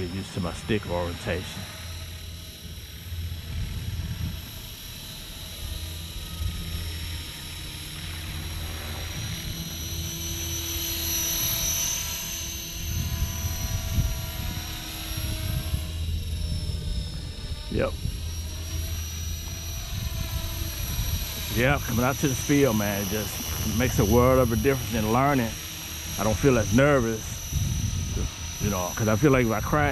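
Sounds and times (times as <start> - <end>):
rc helicopter rotor whine: 0.0 - 29.9.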